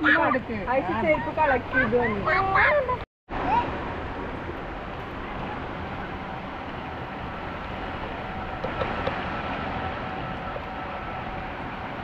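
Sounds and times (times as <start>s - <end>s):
floodwater rushing over road: 0.0s - 12.0s.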